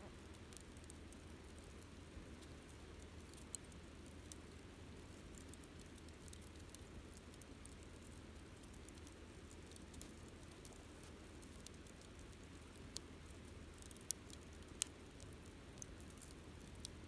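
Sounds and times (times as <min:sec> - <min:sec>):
campfire crackling: 0:00.2 - 0:17.0.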